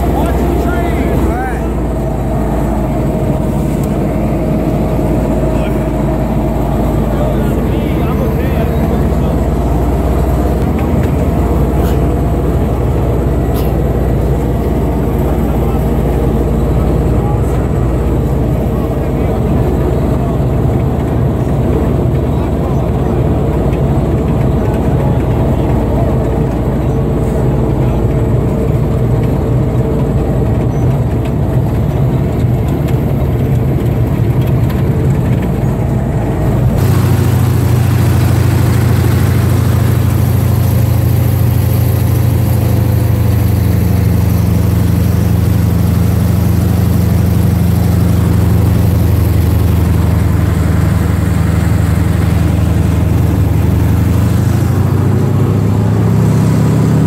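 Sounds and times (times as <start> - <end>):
military vehicle engine running: 0.0 - 57.0.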